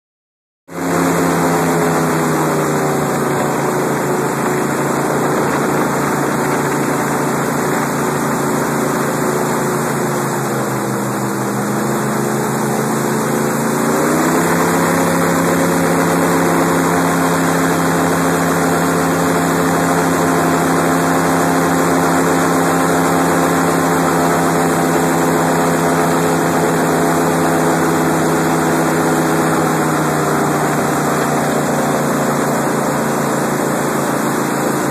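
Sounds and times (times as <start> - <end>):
airboat engine and propeller: 0.7 - 34.9.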